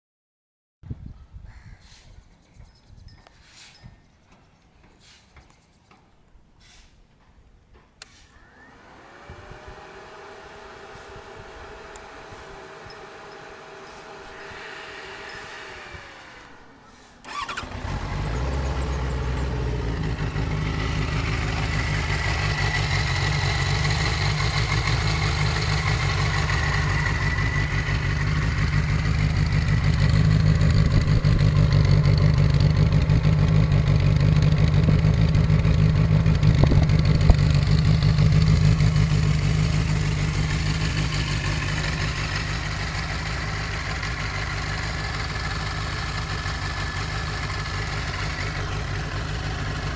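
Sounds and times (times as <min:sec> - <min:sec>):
motorcycle engine starting and idling: 0:08.0 - 0:49.9.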